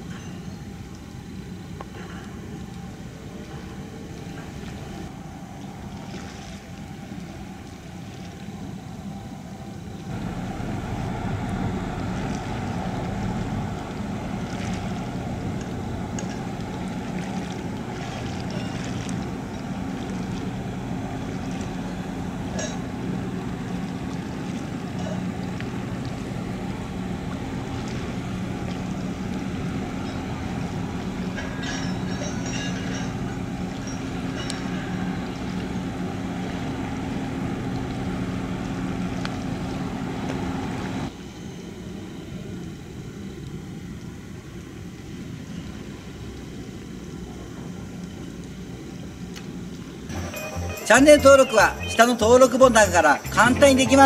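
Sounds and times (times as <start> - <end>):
water wash: 0.8 - 54.0
diesel engine drone: 9.0 - 45.2, 47.0 - 54.0.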